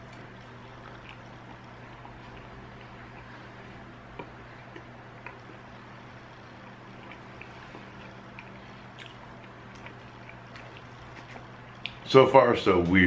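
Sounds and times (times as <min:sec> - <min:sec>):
chewing: 0:00.0 - 0:12.1
low electrical hum: 0:00.0 - 0:13.0.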